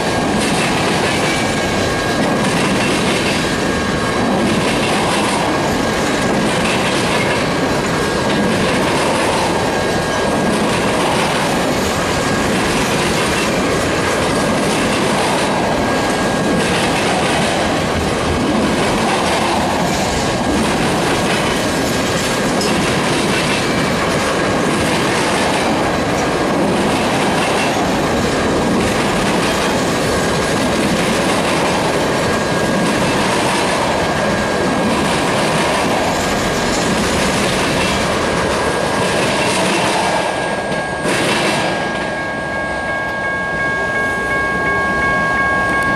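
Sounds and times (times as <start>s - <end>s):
wheels clattering over rail joints: 0.0s - 42.2s
freight train rumbling past: 0.0s - 45.9s.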